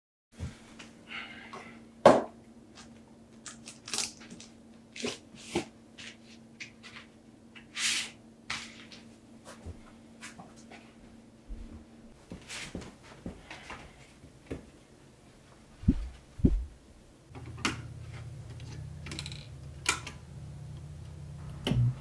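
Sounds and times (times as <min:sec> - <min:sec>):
faint steady hum: 0:00.4 - 0:22.0.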